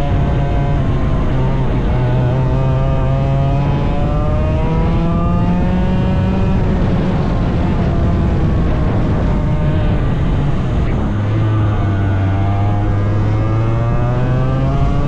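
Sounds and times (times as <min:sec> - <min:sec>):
racing engine accelerating: 0:00.0 - 0:15.0.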